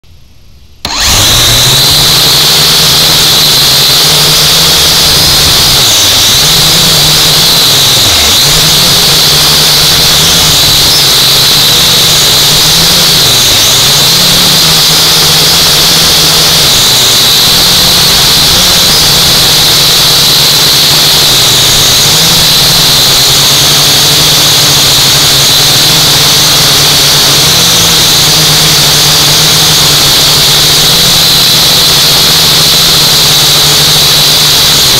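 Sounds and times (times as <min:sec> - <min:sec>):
toy drone motors whining: 0:00.8 - 0:34.9.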